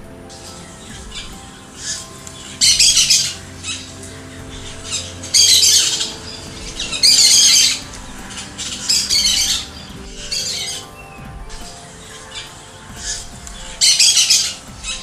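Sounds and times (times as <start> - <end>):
soft music pad: 0.0 - 15.0.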